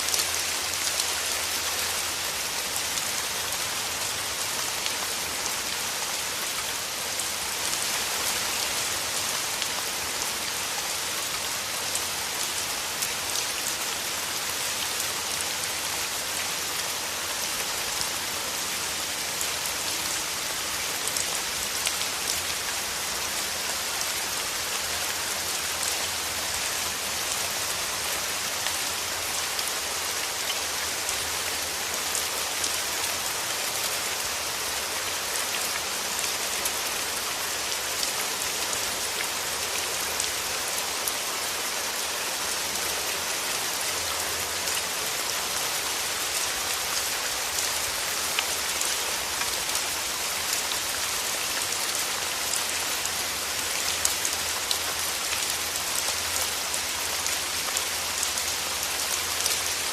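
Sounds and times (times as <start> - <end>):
rain falling through trees: 0.0 - 59.9.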